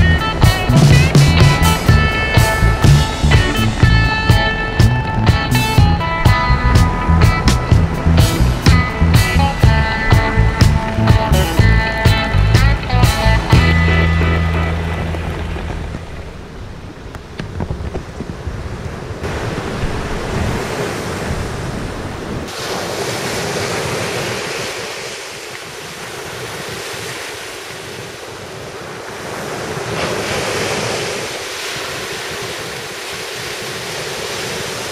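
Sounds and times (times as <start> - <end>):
surf breaking on beach: 0.0 - 34.9
wind rumbling on microphone: 0.0 - 34.9.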